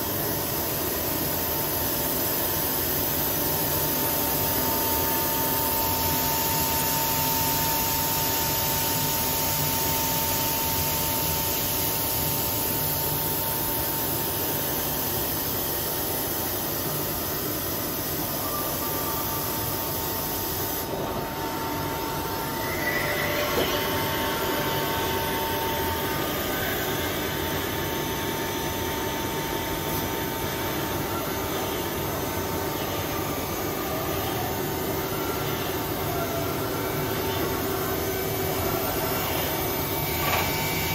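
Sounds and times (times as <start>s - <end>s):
thin steady whine: 0.0s - 40.9s.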